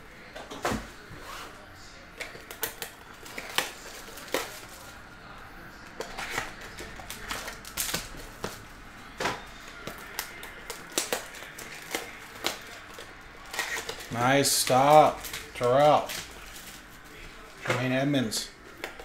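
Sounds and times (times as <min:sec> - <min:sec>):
foil wrappers crinkling: 0:02.2 - 0:05.0, 0:05.9 - 0:19.0.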